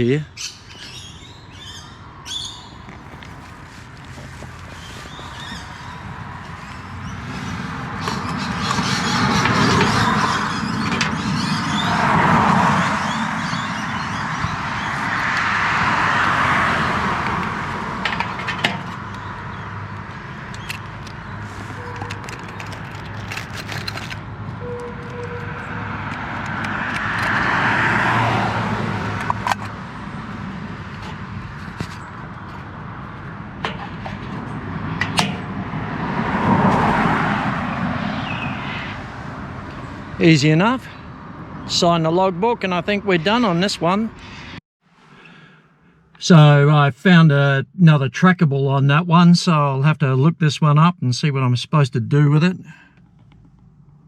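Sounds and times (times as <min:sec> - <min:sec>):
cars passing by: 0:00.0 - 0:46.9, 0:52.2 - 0:54.0.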